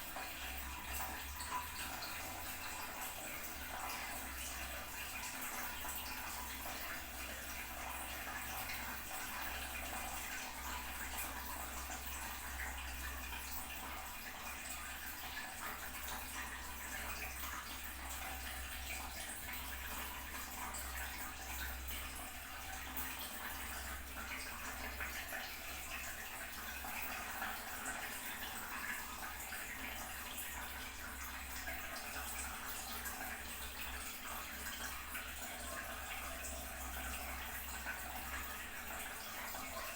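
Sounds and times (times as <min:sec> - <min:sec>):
toilet cistern refilling: 0:00.0 - 0:39.9.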